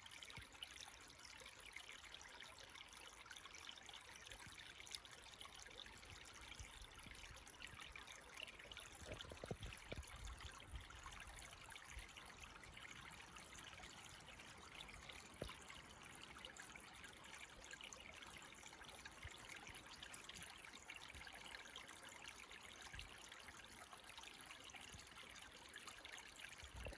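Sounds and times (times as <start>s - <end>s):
creek trickling: 0.0s - 26.9s.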